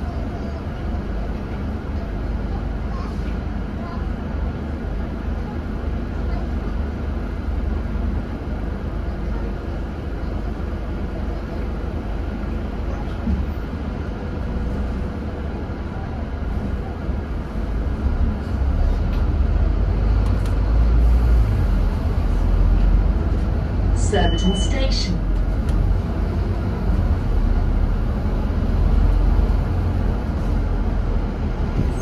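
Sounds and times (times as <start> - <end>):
bus diesel engine rumble: 0.0 - 32.0.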